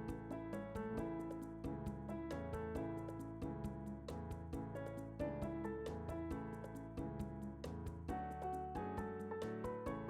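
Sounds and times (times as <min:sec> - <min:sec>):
gentle instrumental music with piano: 0:00.0 - 0:10.0.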